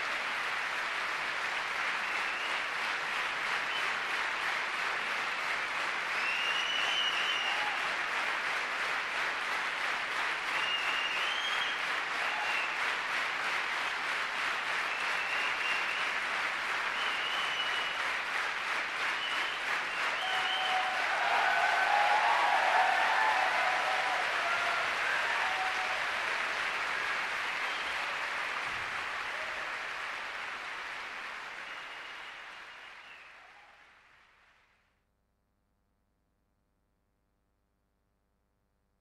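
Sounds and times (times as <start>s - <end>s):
audience applauding: 0.0s - 34.7s.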